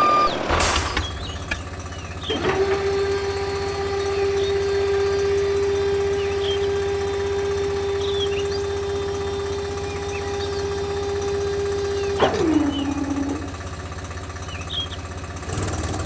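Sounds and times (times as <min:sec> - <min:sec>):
small motor humming and rattling: 0:00.6 - 0:16.0.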